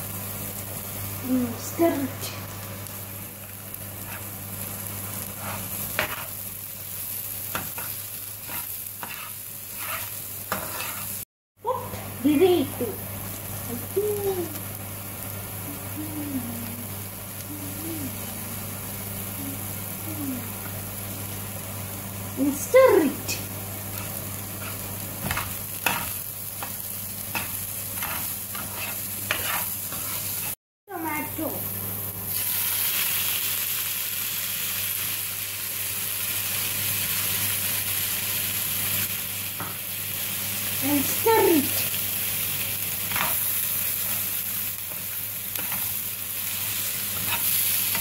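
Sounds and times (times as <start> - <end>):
vegetables sizzling in oil: 0.0 - 48.0.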